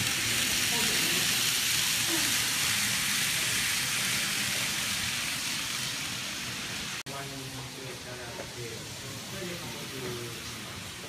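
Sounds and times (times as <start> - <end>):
model train whirring: 0.0 - 11.0
shop background noise: 0.0 - 11.0.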